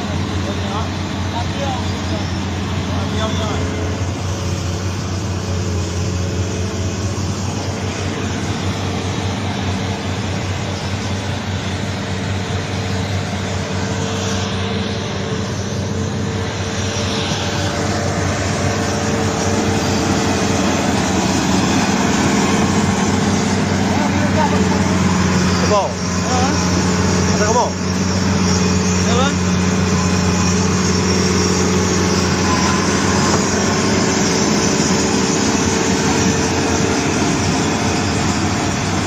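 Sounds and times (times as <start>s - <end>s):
heavy machine engine droning: 0.0s - 39.0s.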